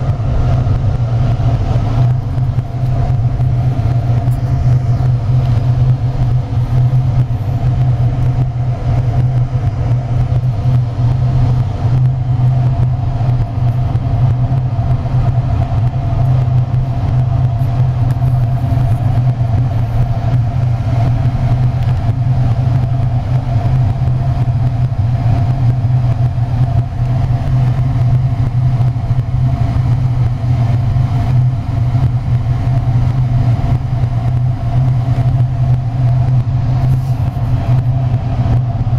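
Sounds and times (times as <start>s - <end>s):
furnace rumble and hum: 0.0s - 38.9s.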